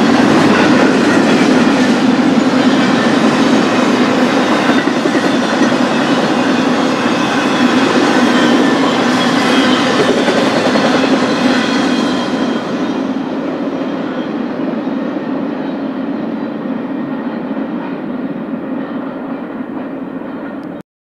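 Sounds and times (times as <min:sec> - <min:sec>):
freight train cars rumbling on rails: 0:00.0 - 0:20.8.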